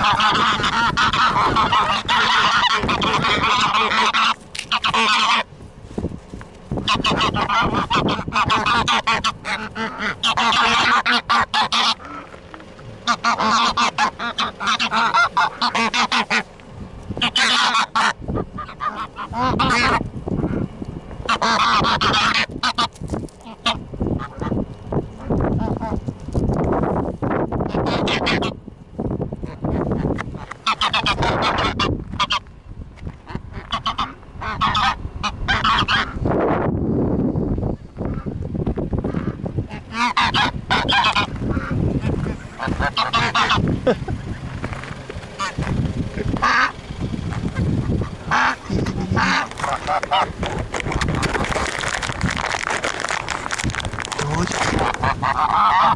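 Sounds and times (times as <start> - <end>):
geese honking: 0.0 - 5.7, 6.6 - 26.1, 26.8 - 28.6, 29.3 - 32.5, 33.2 - 36.3, 37.9 - 55.9
low rumbling noise: 0.0 - 55.9.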